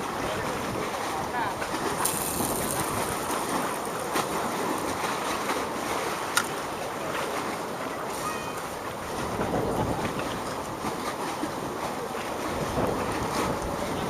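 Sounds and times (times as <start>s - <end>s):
sea waves: 0.0s - 14.0s
wind buffeting microphone: 0.0s - 14.0s.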